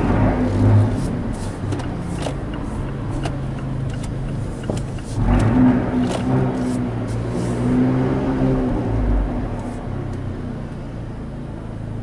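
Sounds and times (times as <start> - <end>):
car exhaust at low revs: 0.0 - 12.0.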